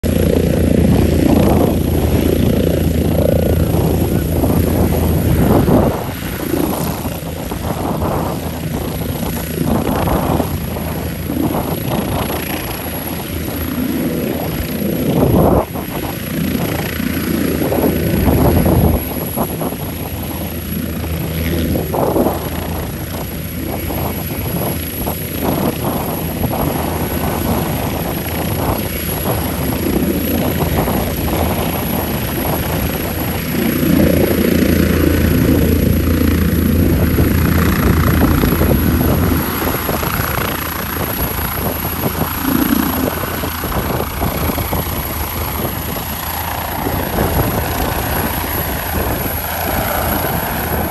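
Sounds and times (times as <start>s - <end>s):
helicopter hovering and taking off: 0.0s - 50.9s.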